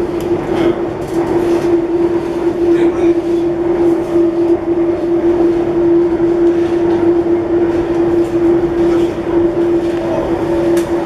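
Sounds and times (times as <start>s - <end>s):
constant humming tone: 0.0s - 11.0s
train running rumble: 0.0s - 11.0s.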